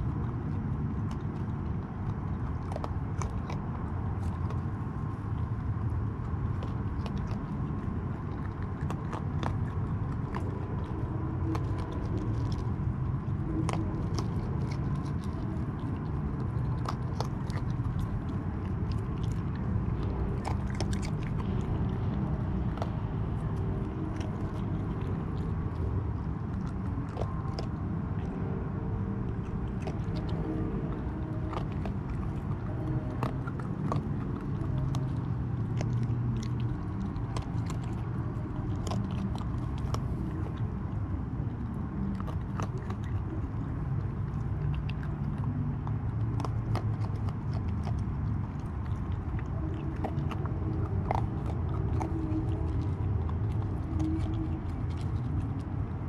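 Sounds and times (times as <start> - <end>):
raccoon crunching kibble: 0.0 - 56.0
steady low rumble: 0.0 - 56.0.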